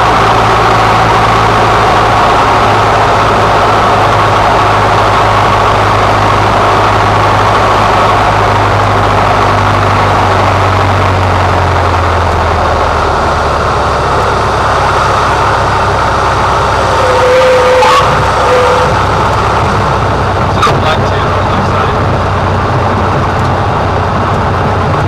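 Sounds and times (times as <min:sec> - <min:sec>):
constant rush of noise: 0:00.0 - 0:25.0
propeller engine drone: 0:00.0 - 0:25.0.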